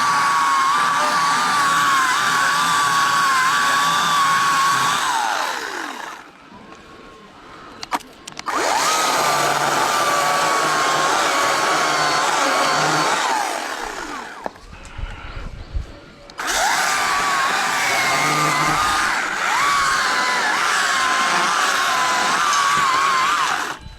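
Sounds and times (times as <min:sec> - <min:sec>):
chainsaw engine revving and idling: 0:00.0 - 0:06.2, 0:08.5 - 0:14.4, 0:16.4 - 0:23.8.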